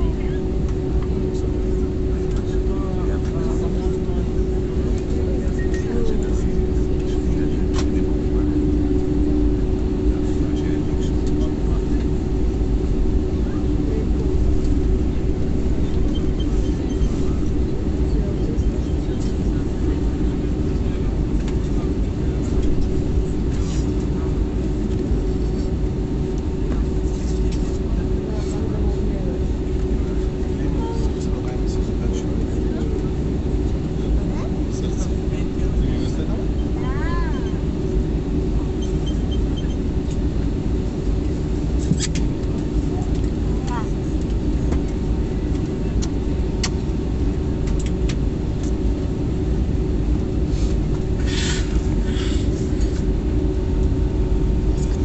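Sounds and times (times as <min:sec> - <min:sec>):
aircraft cabin rumble and hum: 0:00.0 - 0:55.0.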